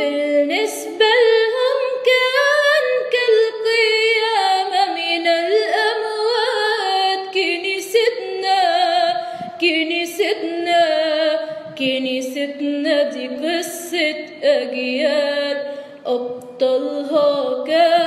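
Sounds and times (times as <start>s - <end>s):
woman singing unaccompanied: 0.0s - 18.0s.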